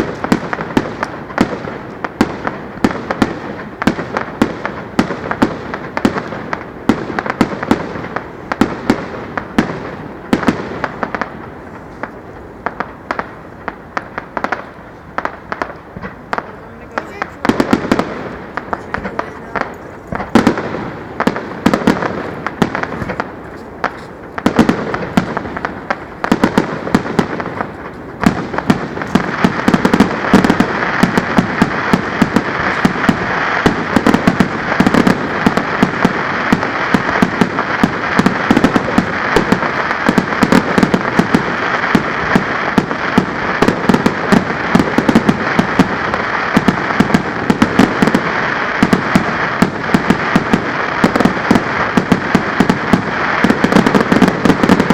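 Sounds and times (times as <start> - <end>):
fireworks bangs and crackle: 0.0 - 54.9.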